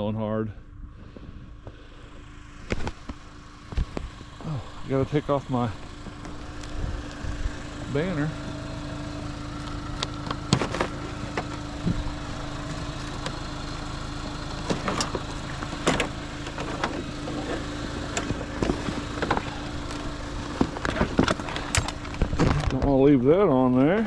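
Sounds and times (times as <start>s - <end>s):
truck engine idling: 0.9s - 24.0s.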